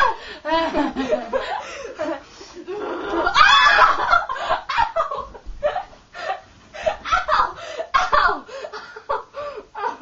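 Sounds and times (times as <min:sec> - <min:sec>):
girls laughing and giggling: 0:00.0 - 0:10.0.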